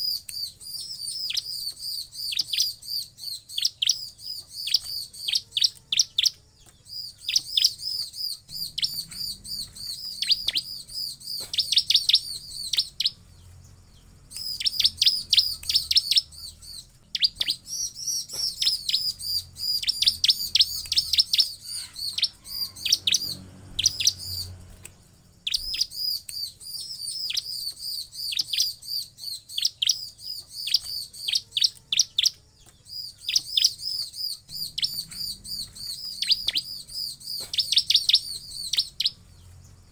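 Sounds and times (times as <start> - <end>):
bird chirping high and sharp: 0.0 - 39.9.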